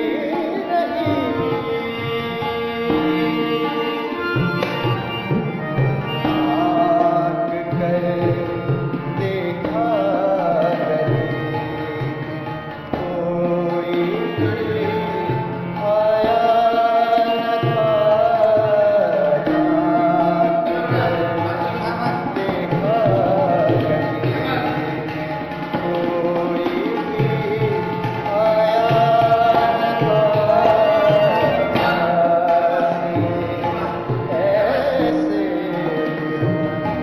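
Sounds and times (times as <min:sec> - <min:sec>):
man singing ornamented notes: 0:00.0 - 0:37.0
tabla: 0:00.0 - 0:37.0.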